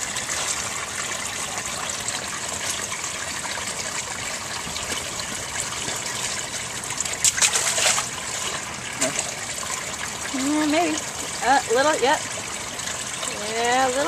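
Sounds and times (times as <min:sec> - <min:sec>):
stream running over rocks: 0:00.0 - 0:14.0.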